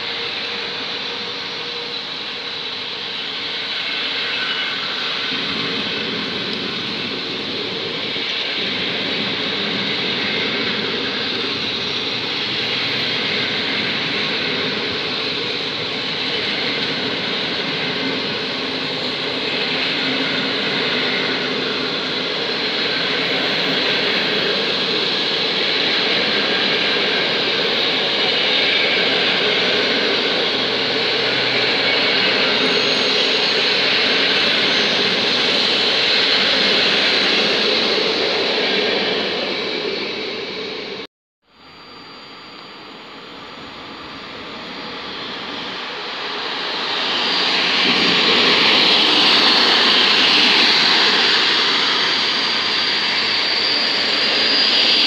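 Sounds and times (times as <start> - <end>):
train wheels on rails: 0.0 - 41.0, 43.5 - 55.0.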